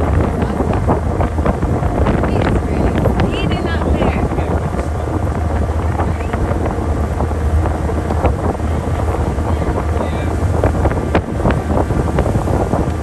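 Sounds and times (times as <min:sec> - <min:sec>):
boat hull slapping water: 0:00.0 - 0:13.0
wind buffeting microphone: 0:00.0 - 0:13.0.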